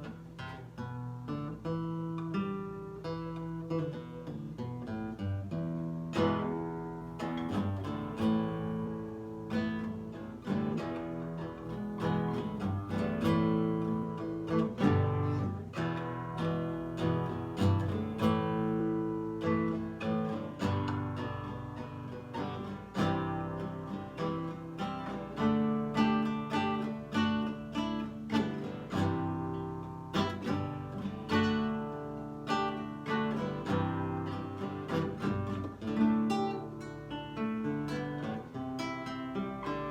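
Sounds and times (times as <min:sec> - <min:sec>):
nylon-string acoustic guitar: 0:00.0 - 0:39.9.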